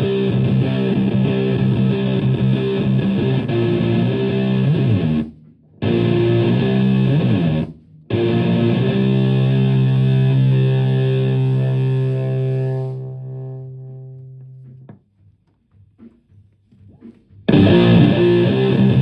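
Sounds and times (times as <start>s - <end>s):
fuzzy electric guitar chords: 0.0s - 14.9s, 17.5s - 19.0s.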